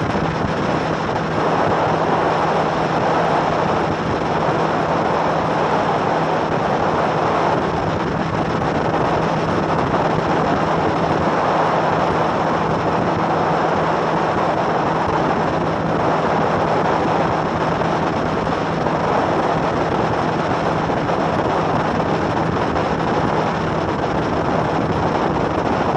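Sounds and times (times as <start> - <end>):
outboard engine drone: 0.0 - 25.9
rush of wind and water: 0.0 - 25.9.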